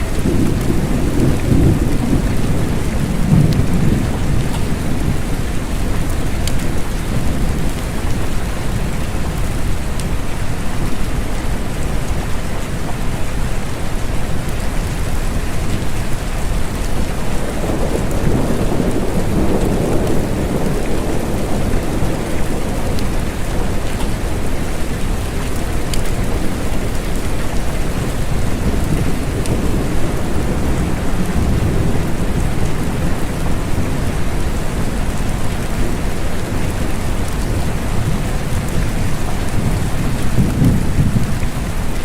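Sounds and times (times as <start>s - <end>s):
distant thunder rumbling: 0.0s - 8.5s, 16.4s - 42.0s
steady rain: 0.0s - 42.0s.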